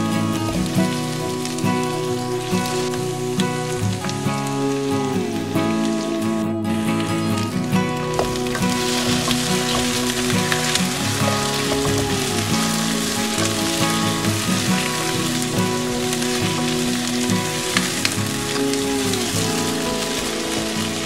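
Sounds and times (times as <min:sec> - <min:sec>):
background music: 0:00.0 - 0:21.0
potatoes sizzling in oil: 0:00.0 - 0:21.0.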